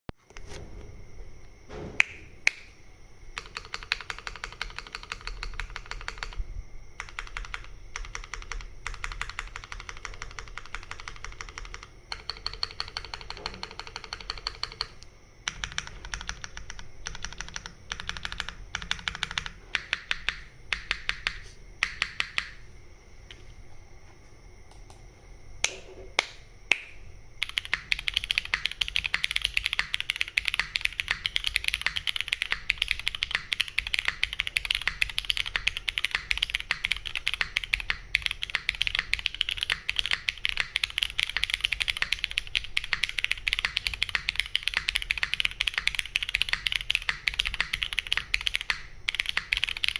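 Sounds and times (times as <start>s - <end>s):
mechanical keyboard typing: 3.4s - 6.4s, 7.0s - 22.6s, 27.4s - 49.9s.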